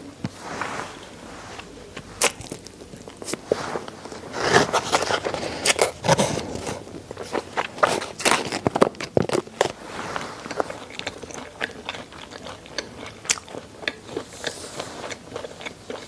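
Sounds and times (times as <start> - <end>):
chewing crunching bone: 1.6 - 16.0.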